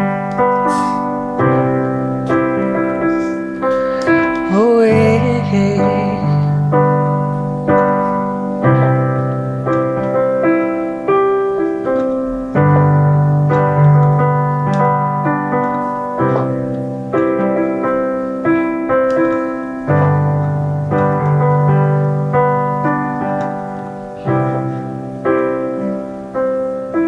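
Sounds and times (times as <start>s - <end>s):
slow solo piano: 0.0s - 27.0s.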